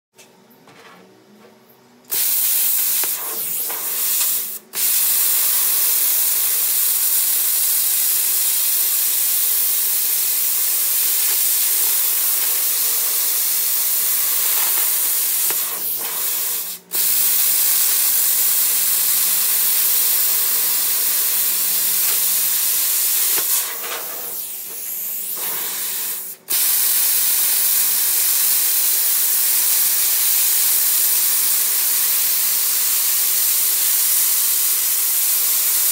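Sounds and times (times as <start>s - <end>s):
plasma cutter hissing: 2.1s - 35.9s.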